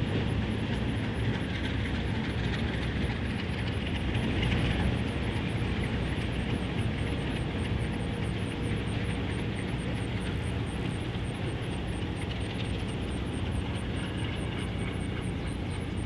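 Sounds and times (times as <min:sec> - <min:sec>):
diesel locomotive low rumble: 0:00.0 - 0:16.0.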